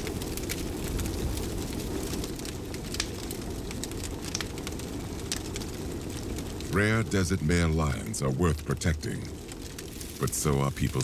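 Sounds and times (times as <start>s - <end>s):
bonfire flames rushing: 0.0s - 11.0s
fire crackles and pops: 0.0s - 11.0s.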